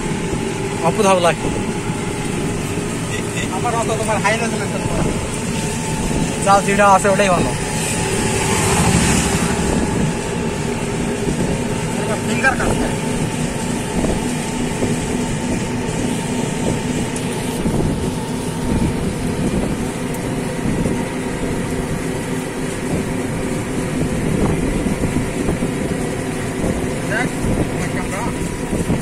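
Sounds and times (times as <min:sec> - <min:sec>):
motorboat engine humming: 0:00.0 - 0:29.0.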